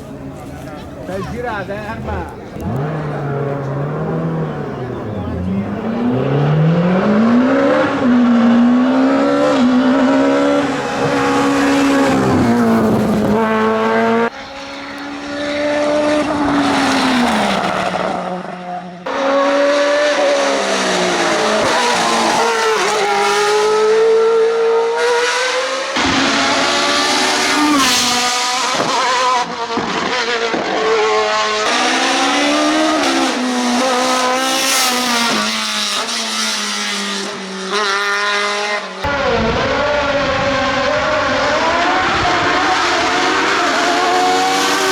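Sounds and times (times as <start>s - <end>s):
racing car engines at full throttle: 0.0s - 44.9s.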